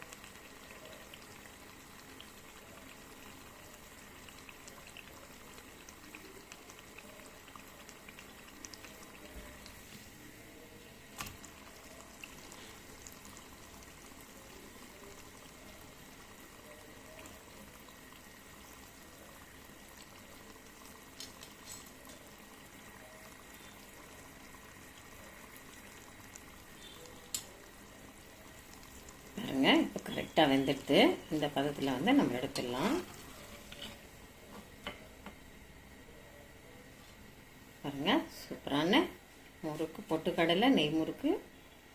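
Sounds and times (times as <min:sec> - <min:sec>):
oil sizzling and crackling: 0:00.0 - 0:36.0.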